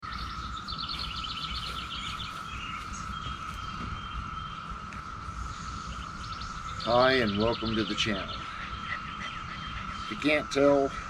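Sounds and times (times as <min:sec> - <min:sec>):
birds chirping in trills: 0:00.0 - 0:11.0
wind rumble on microphone: 0:00.0 - 0:11.0.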